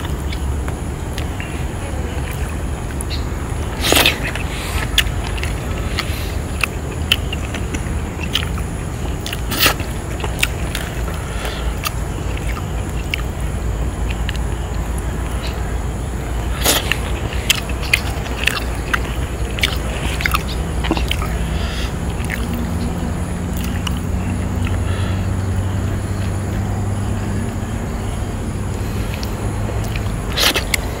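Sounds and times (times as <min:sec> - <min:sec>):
engine humming: 0:00.0 - 0:31.0.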